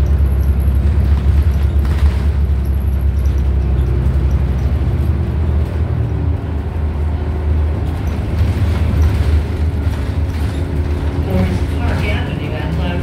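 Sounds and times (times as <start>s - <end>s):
bus diesel engine rumble: 0.0s - 13.0s
road noise: 0.0s - 13.0s.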